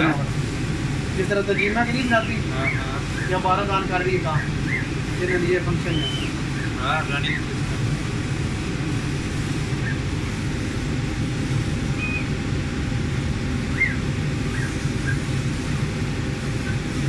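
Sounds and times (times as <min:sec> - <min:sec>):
faint high chirps and whines: 0:00.0 - 0:17.0
laser cutting machine rumble: 0:00.0 - 0:17.0.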